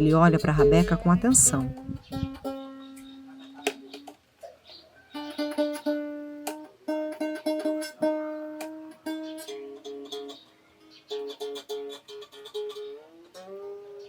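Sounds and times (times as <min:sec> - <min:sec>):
fiddle strings plucked: 0:00.0 - 0:04.2, 0:05.1 - 0:14.0.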